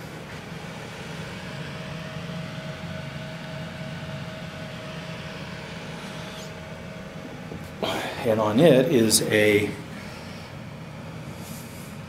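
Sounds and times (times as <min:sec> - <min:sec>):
faint thin whine: 0:00.0 - 0:12.0
fan hum: 0:00.0 - 0:12.0.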